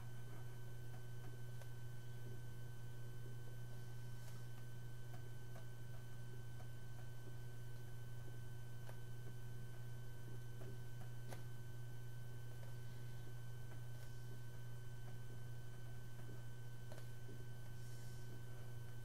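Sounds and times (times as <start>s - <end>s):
faint high whine: 0.0s - 19.0s
low electrical hum: 0.0s - 19.0s.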